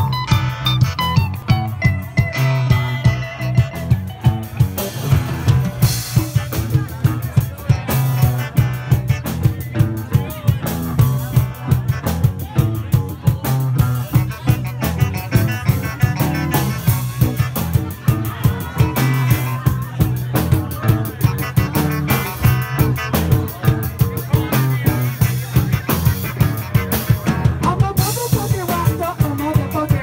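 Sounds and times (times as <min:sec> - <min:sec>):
drum kit beat: 0:00.0 - 0:30.0
live band playing: 0:00.0 - 0:30.0
low bass line: 0:00.0 - 0:30.0.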